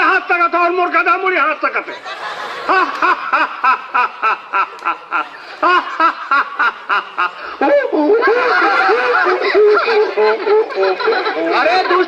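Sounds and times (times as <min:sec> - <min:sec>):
boy laughing rhythmically: 0:01.8 - 0:12.0.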